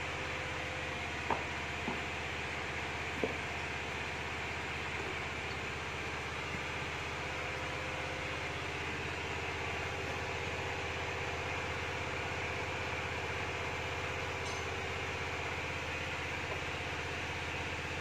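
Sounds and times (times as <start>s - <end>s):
air compressor engine running: 0.0s - 18.0s.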